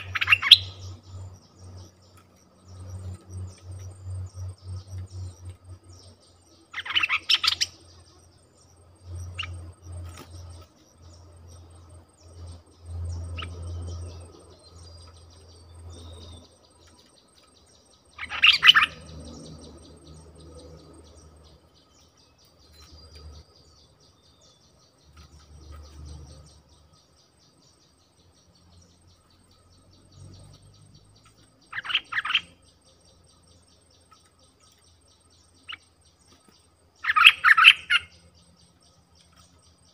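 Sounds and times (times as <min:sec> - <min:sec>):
birds calling: 0:00.0 - 0:39.9
faint insect drone: 0:00.0 - 0:39.9.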